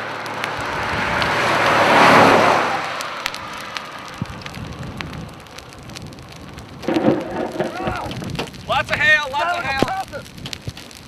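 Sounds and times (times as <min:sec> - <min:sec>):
hail and raindrops ticking: 0:00.0 - 0:02.2, 0:02.9 - 0:11.0
wind rushing over microphone: 0:00.0 - 0:11.0.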